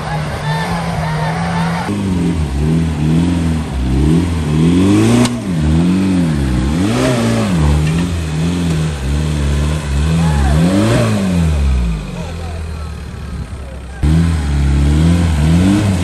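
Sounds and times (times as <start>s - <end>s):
engine revving: 0.8s - 12.7s, 14.0s - 16.0s.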